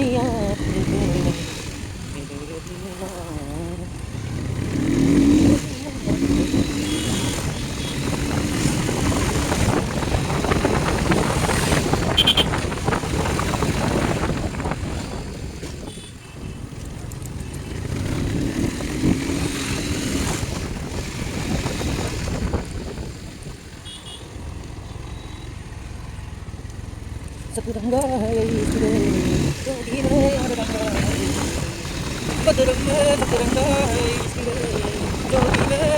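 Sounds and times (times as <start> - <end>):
motorcycle engine running: 0.0 - 35.9
road and wind noise: 0.0 - 35.9.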